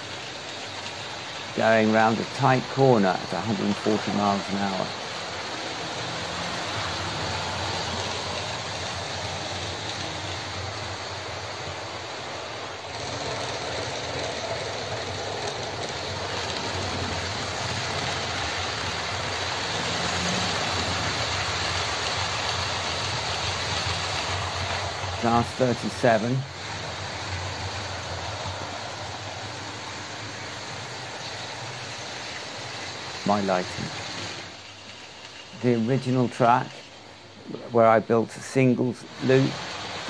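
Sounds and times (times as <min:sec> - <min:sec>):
model trains running on track: 0:00.0 - 0:40.0.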